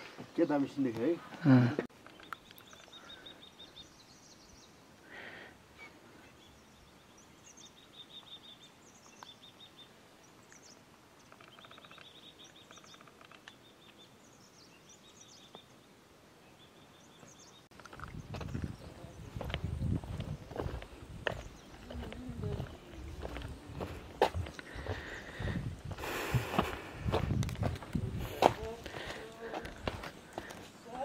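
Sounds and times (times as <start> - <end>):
background hiss: 0.0 - 17.9, 18.7 - 31.0
birds chirping and trilling: 0.0 - 31.0.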